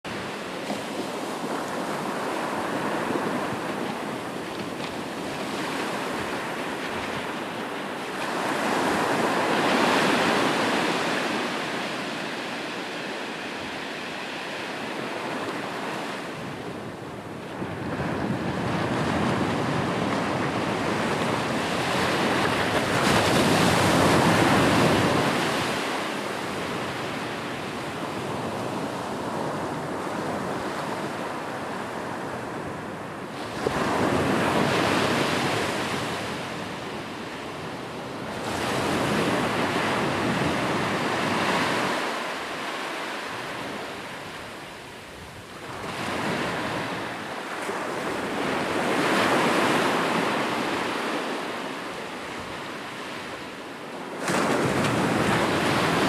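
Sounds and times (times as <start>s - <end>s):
ocean waves breaking on shore: 0.1s - 56.0s.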